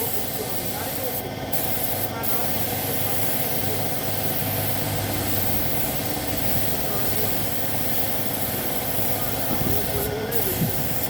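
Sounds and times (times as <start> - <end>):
air compressor motor hum: 0.0 - 11.0
air hissing: 0.0 - 11.0.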